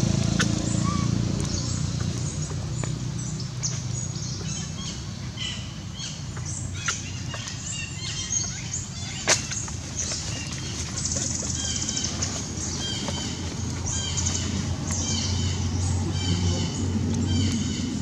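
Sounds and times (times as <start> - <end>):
low outdoor rumble: 0.0 - 18.0
birds chirping: 0.1 - 18.0.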